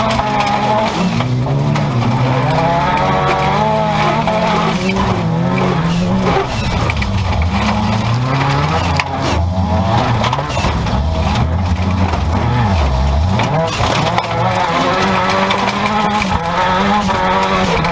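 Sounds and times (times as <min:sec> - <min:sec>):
car engine revving: 0:00.0 - 0:17.9
car rumbling on dirt track: 0:00.0 - 0:17.9.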